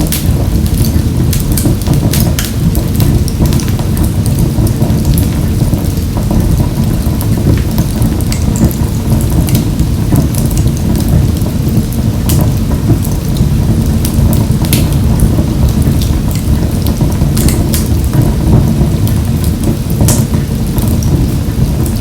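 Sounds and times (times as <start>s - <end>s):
fire crackles and pops: 0.0s - 22.0s
fire rumbling in a stove: 0.0s - 22.0s.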